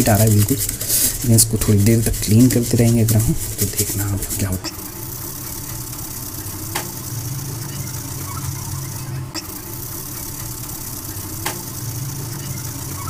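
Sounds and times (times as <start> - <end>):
motor humming: 0.0 - 13.0
toothbrush scrubbing tyre: 0.0 - 13.0.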